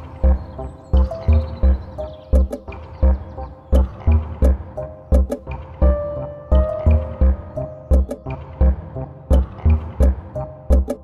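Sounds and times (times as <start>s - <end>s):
ethnic background music with drum: 0.0s - 11.0s.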